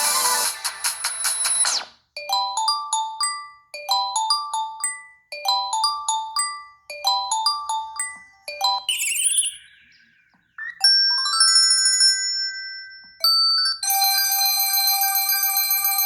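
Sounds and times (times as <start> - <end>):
mallet-like ringtone melody: 1.2 - 16.0.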